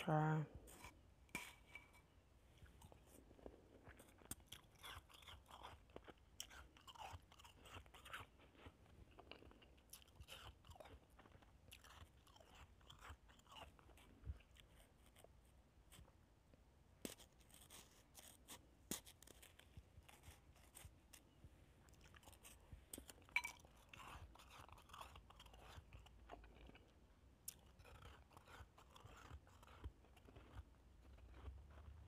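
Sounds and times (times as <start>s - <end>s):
chewing crunchy ice: 2.6s - 16.2s, 17.1s - 32.0s.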